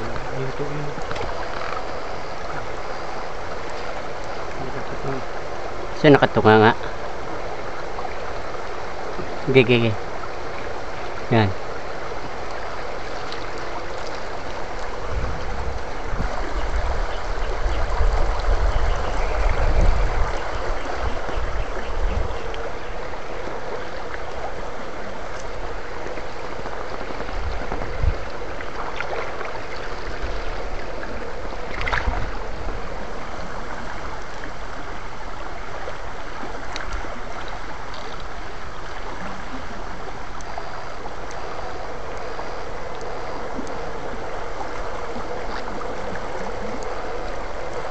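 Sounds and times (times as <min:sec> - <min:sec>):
low rumbling: 0:00.0 - 0:47.9
stream running and splashing: 0:00.0 - 0:47.9
wading through water: 0:00.0 - 0:47.9.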